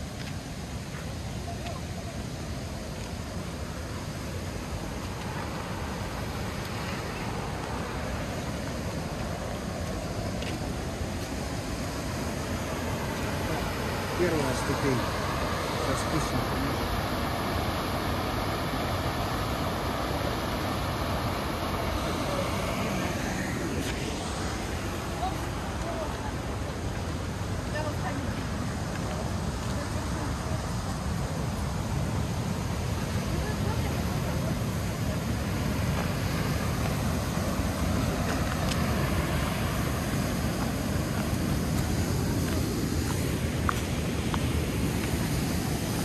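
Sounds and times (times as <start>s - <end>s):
waterfall rushing: 0.1s - 46.0s.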